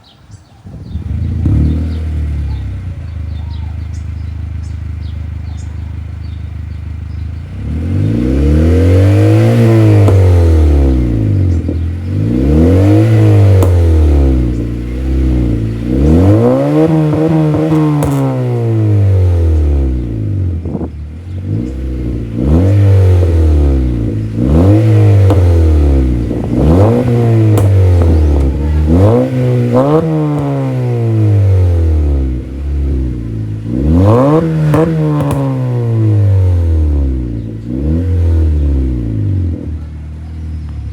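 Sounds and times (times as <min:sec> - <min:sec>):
car engine idling: 0:00.0 - 0:40.9
car engine revving: 0:00.7 - 0:40.9.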